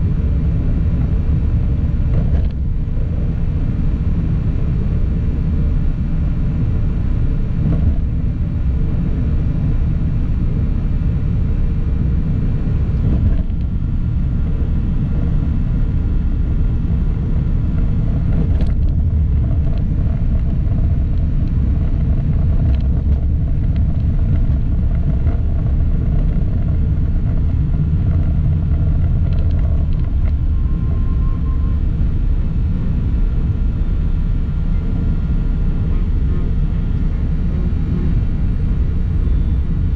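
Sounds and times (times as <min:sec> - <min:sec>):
vehicle road rumble: 0:00.0 - 0:39.9.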